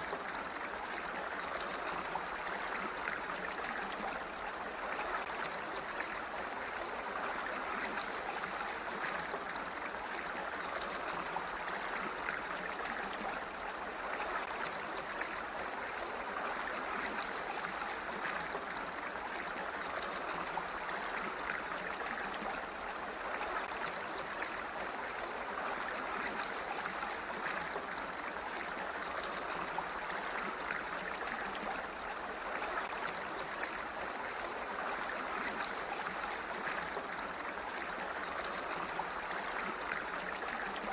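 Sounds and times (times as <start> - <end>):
flowing stream water: 0.0 - 40.9.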